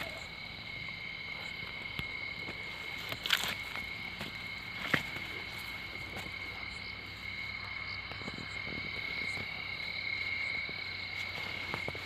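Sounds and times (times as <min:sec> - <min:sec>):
crickets trilling: 0:00.0 - 0:12.0
faint rustles: 0:01.5 - 0:12.0.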